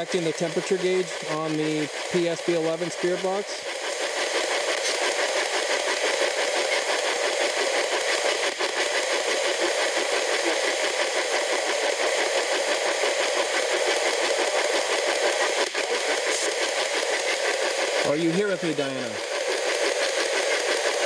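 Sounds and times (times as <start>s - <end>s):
radio scanning chopped static: 0.0s - 21.0s.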